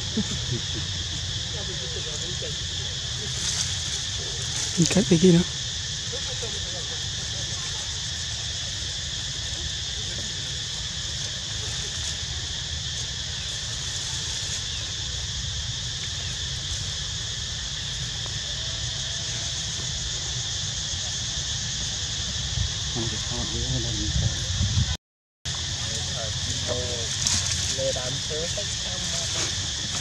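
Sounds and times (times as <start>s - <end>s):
insect chorus buzzing: 0.0s - 30.0s.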